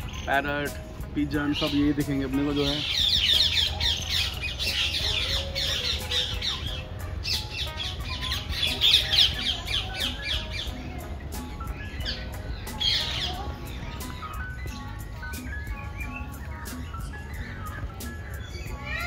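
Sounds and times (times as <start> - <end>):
birds chattering and squawking: 0.0 - 19.0.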